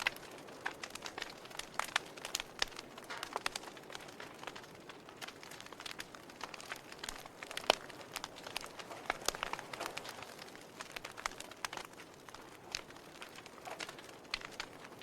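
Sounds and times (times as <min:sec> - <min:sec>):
campfire crackling and popping: 0:00.0 - 0:15.0
soft steady hiss: 0:00.0 - 0:15.0.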